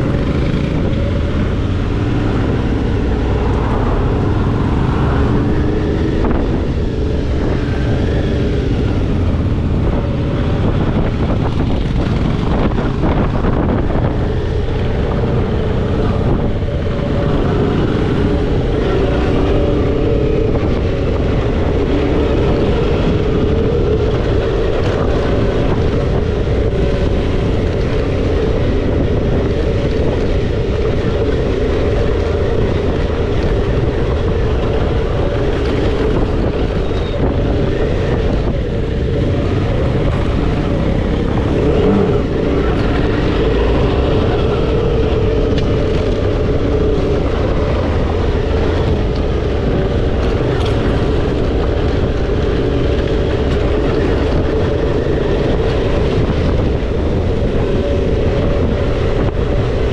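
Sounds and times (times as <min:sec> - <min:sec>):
motorcycle engine running: 0:00.0 - 0:59.9
wind rumble: 0:00.0 - 0:59.9.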